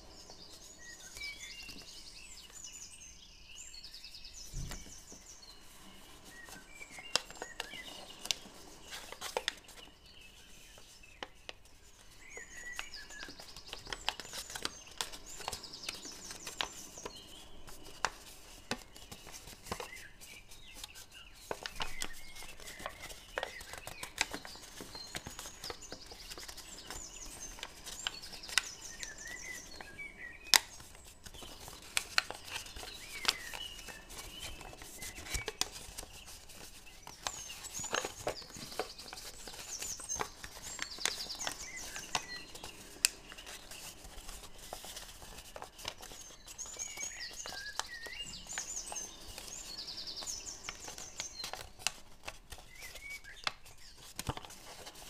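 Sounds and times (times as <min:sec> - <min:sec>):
paper folding and crinkling: 0:00.0 - 0:02.6, 0:04.4 - 0:55.0
birds chirping: 0:00.0 - 0:55.0.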